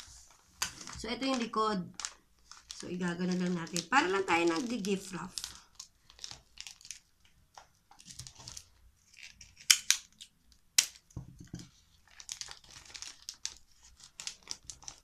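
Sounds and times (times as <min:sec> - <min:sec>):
plastic cover crinkling: 0:00.0 - 0:15.0.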